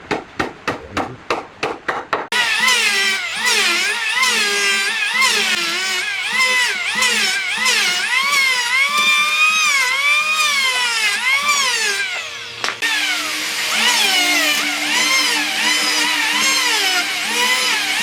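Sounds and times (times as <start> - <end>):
power tool whining cutting wood: 2.3 - 18.0.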